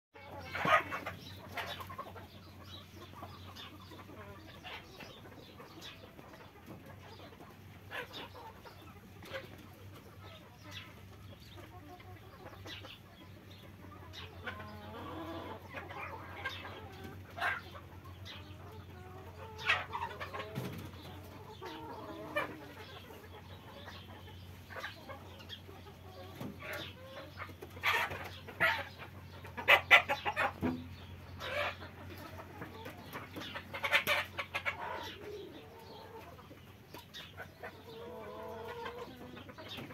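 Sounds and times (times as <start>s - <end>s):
chickens squawking: 0.2s - 39.9s
hens and roosters clucking: 0.2s - 39.9s.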